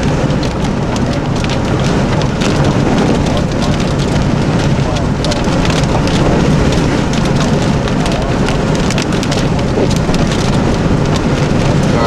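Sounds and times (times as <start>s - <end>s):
car driving rumble: 0.0s - 12.0s
raindrops ticking on car: 0.0s - 12.0s.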